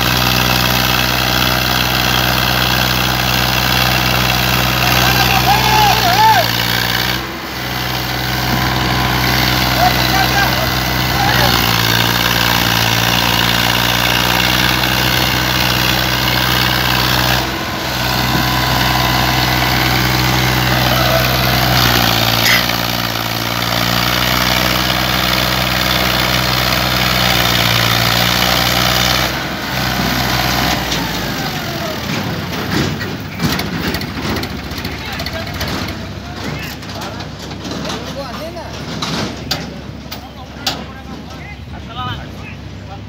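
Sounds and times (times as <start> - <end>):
tractor diesel engine running hard: 0.0 - 43.0.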